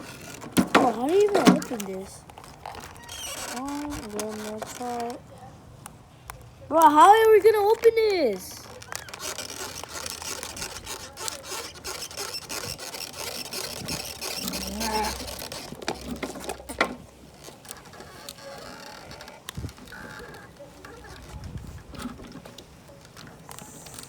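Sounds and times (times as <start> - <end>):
plastic pouch crinkling: 0.0 - 5.3, 7.0 - 22.0.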